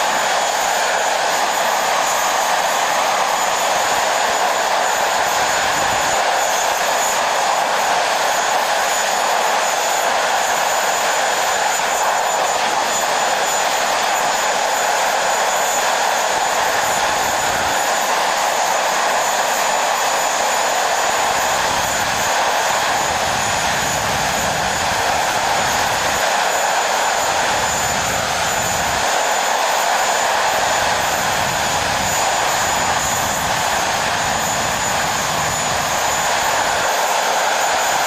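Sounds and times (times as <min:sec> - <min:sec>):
high jet whine: 0:00.0 - 0:38.0
jet engine roar: 0:00.0 - 0:38.0.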